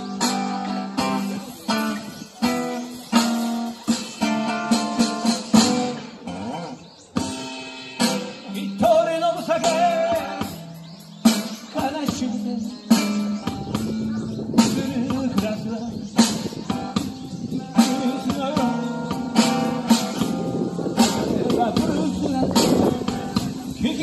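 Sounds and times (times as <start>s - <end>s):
acoustic guitar playing slow blues: 0.0s - 24.0s.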